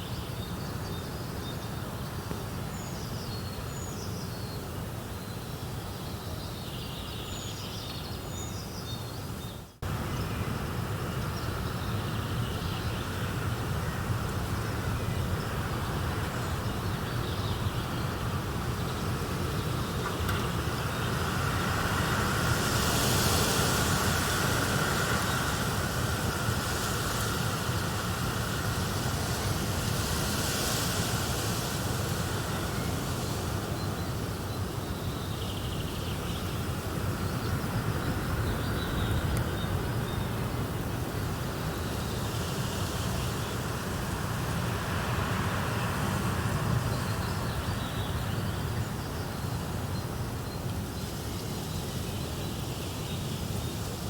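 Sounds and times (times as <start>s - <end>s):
wind blowing in gusts: 9.3s - 54.0s.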